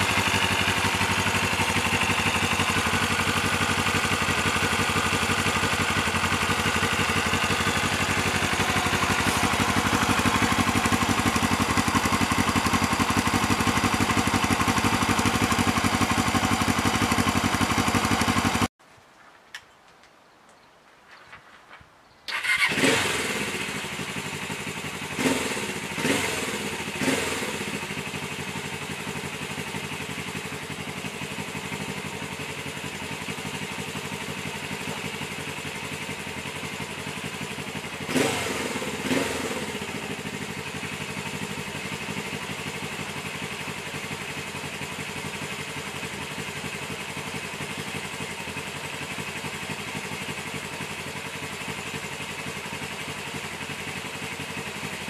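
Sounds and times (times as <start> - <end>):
motorcycle engine idling: 0.0 - 18.7, 22.3 - 55.0.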